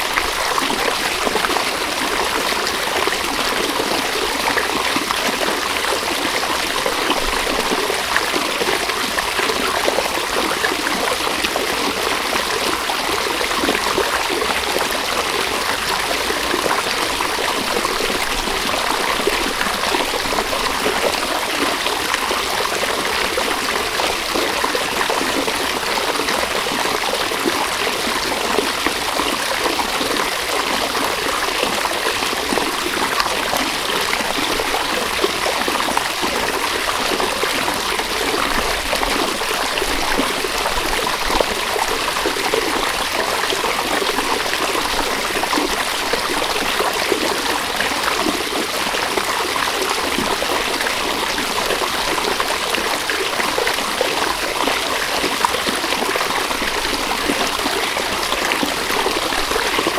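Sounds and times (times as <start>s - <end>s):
river water running over stones: 0.0s - 59.9s.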